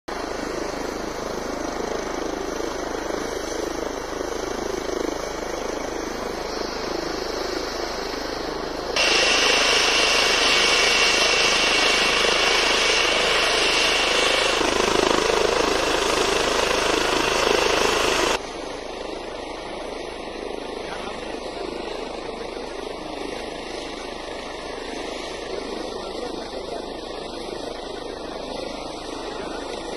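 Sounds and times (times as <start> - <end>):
helicopter rotor and turbine noise: 0.1 - 29.9
high whine: 0.1 - 29.9.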